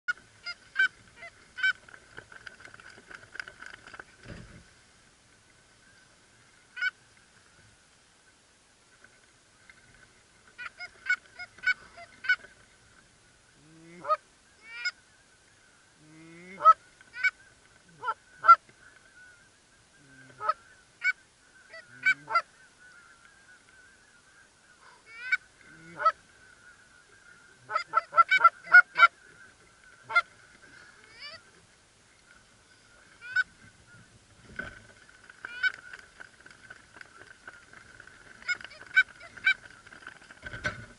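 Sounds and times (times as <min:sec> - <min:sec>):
geese honking and clucking: 0:00.1 - 0:04.6, 0:05.7 - 0:07.6, 0:09.7 - 0:40.9.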